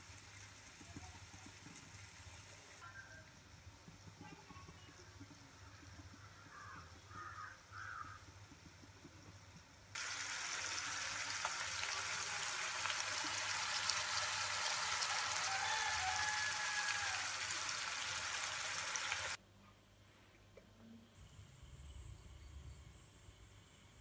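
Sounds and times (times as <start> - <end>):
fish sizzling in oil: 0.0 - 19.4.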